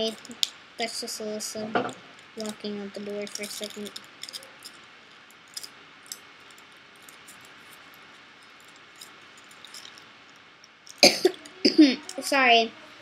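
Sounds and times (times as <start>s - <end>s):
aluminium foil crinkling: 0.0s - 12.4s
low hiss: 0.0s - 13.0s.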